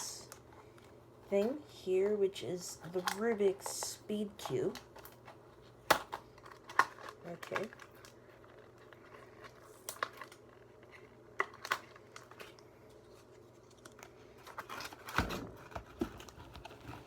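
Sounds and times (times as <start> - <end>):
packaging being opened by hand: 2.8 - 17.0.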